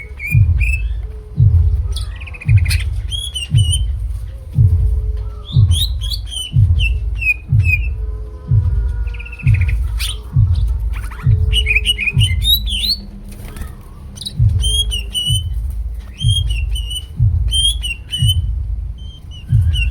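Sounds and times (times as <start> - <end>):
bird singing chirps and trills: 0.0 - 19.9
deep repeating thump: 0.0 - 19.9.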